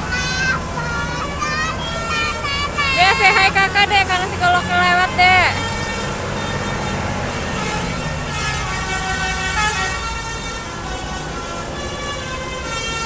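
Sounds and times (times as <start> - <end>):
faint musical bus horn: 0.0 - 13.0
road traffic with heavy engines: 0.0 - 13.0.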